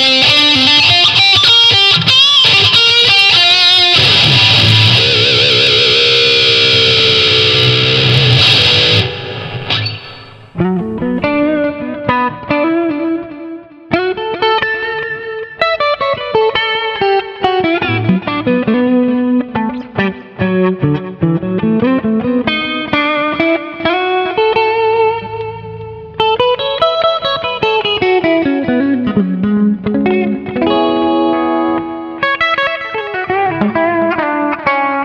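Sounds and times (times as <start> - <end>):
distorted electric guitar lead: 0.0 - 35.0.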